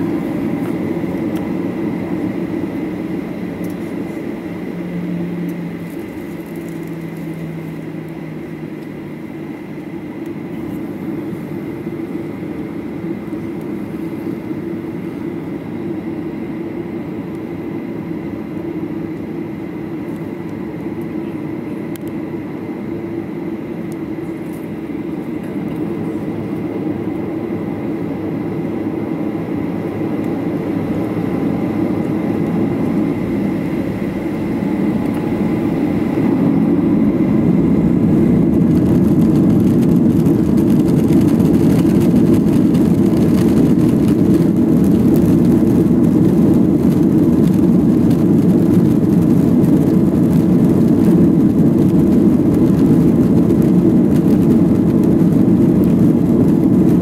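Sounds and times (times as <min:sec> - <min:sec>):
jet engines humming and whining: 0:00.0 - 0:57.0.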